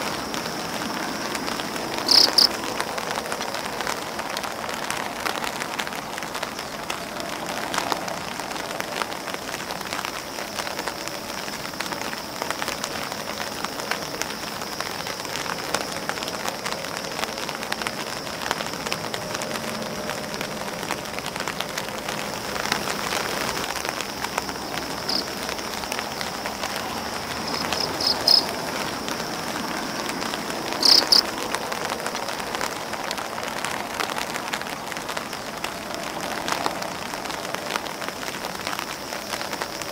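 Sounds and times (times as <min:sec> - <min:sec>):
high-pitched hiss: 0:00.0 - 0:04.6, 0:05.8 - 0:39.9
rain pattering on umbrella and grass: 0:00.0 - 0:39.9.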